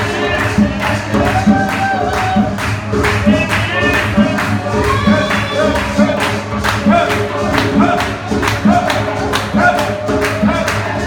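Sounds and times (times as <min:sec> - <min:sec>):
gospel singing: 0:00.0 - 0:11.0
instruments: 0:00.0 - 0:11.0.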